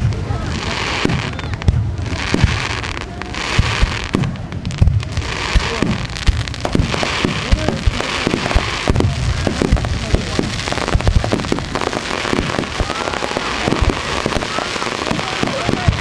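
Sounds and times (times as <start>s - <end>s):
fireworks booming and popping: 0.0s - 16.0s.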